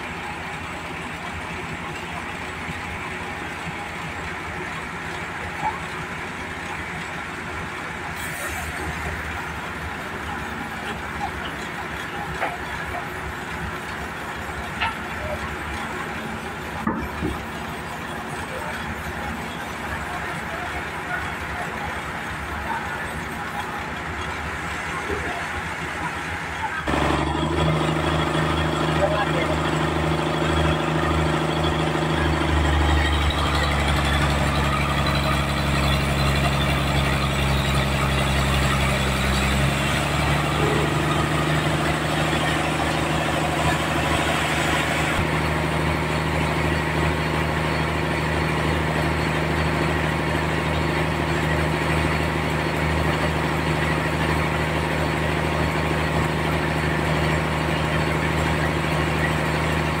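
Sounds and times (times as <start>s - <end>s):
sawmill engine running: 0.0s - 60.0s.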